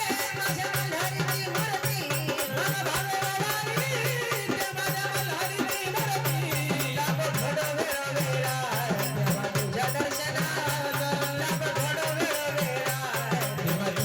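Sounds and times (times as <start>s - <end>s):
rattle and drum percussion: 0.0s - 14.0s.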